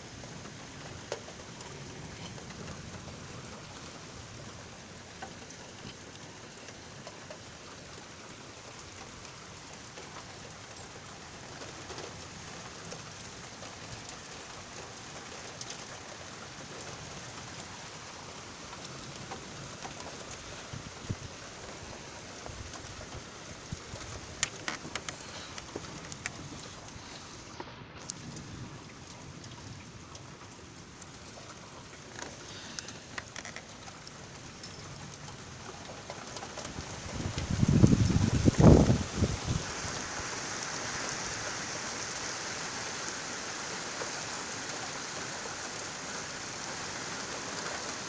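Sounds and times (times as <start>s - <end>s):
sharp raindrop ticks: 0.0s - 48.0s
steady rain falling: 0.0s - 48.0s.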